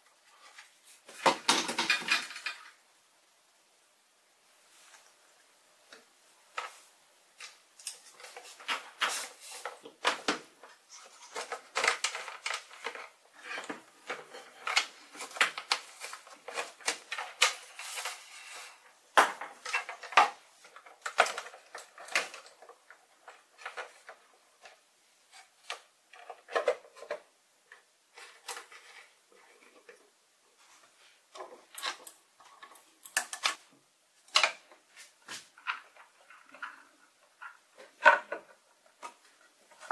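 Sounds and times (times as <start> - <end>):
hands handling plastic parts: 0.2 - 2.8, 5.8 - 39.9.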